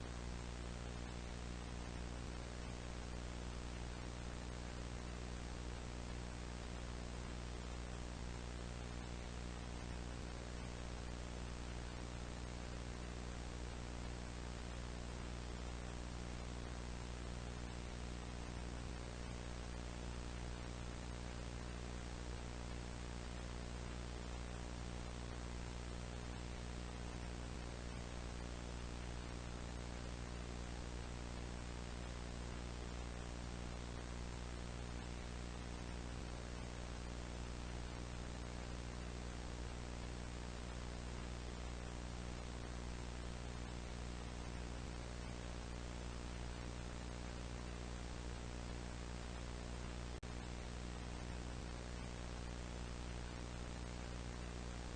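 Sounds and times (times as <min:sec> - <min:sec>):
buzzy electrical hum: 0:00.0 - 0:54.9
static hiss: 0:00.0 - 0:54.9.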